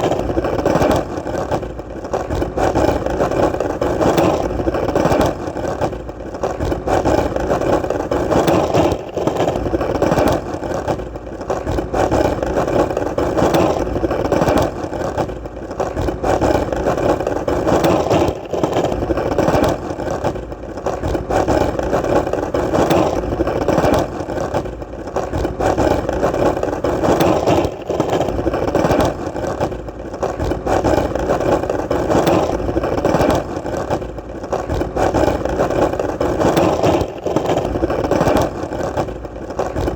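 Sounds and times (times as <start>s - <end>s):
skateboard wheels rolling: 0.0s - 39.9s.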